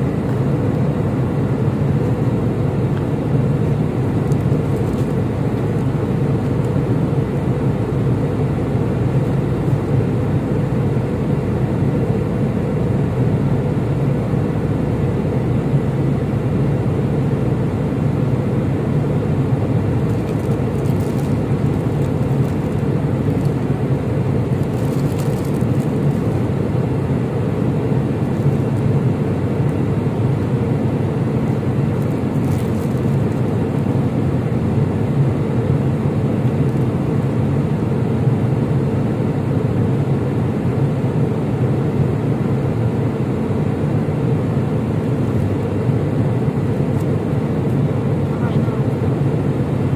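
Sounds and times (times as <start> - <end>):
airliner cabin drone: 0.0 - 49.9.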